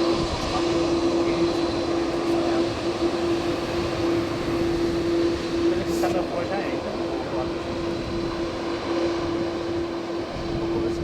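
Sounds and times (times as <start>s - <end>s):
airliner engine noise: 0.0s - 11.0s
constant humming tone: 0.0s - 11.0s.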